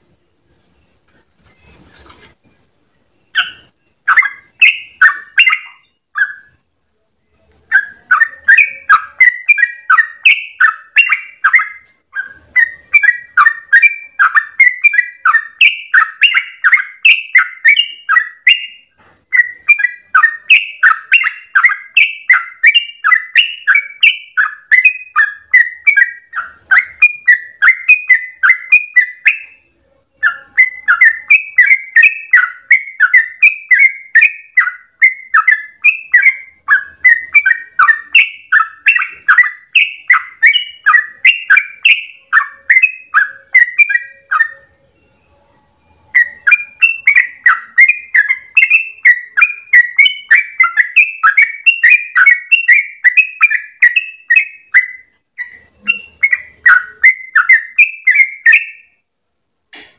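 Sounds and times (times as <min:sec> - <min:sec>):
bird singing bubbling chirps: 0:03.2 - 0:06.6, 0:07.2 - 0:29.6, 0:30.2 - 0:44.7, 0:46.2 - 0:59.0.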